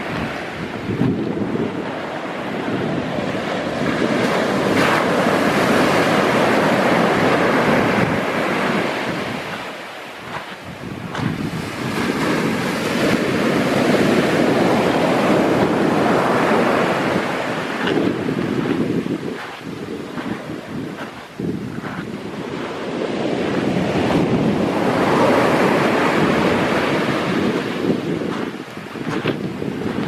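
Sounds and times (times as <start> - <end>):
waves breaking: 0.0 - 30.0
wind on microphone: 0.0 - 30.0.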